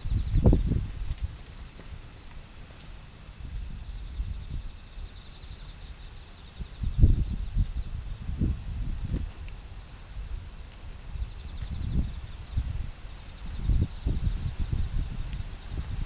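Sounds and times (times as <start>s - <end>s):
wind gusts buffeting microphone: 0.0s - 2.6s, 3.2s - 16.0s.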